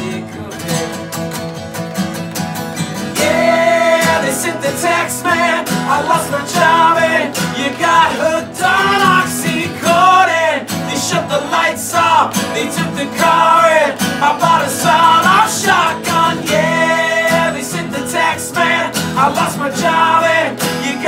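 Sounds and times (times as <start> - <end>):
man singing lead vocal: 0.0 - 1.3, 3.1 - 21.0
acoustic guitars strumming: 0.0 - 21.0
second man singing along: 3.2 - 21.0.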